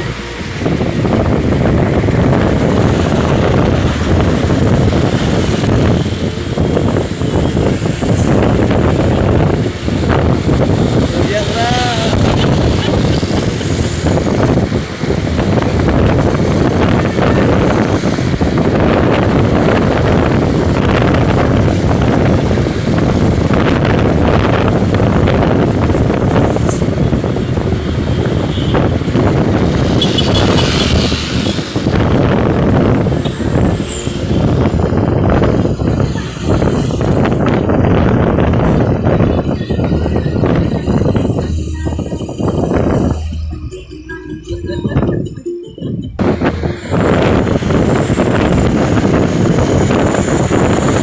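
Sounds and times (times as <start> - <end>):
moving vehicle running noise: 0.0 - 51.0
wind buffeting microphone: 0.0 - 51.0.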